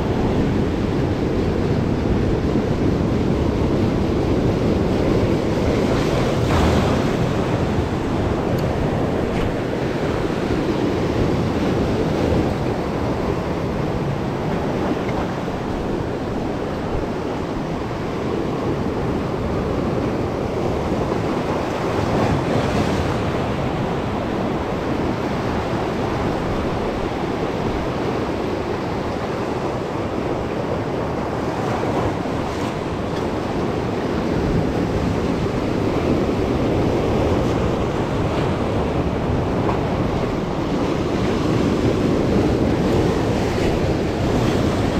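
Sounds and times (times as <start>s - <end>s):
waves washing around rocks: 0.0s - 44.9s.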